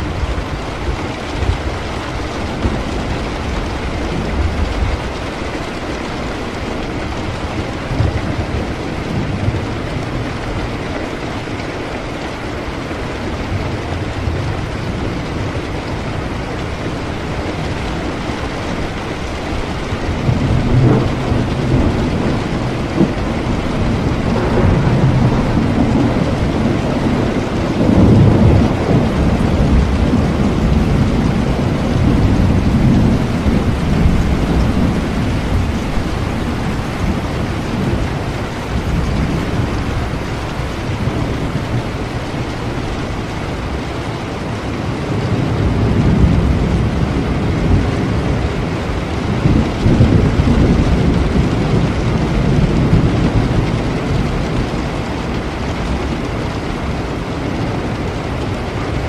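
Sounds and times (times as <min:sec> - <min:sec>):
rolling thunder rumbles: 0:00.0 - 0:59.0
steady rain: 0:00.0 - 0:59.0.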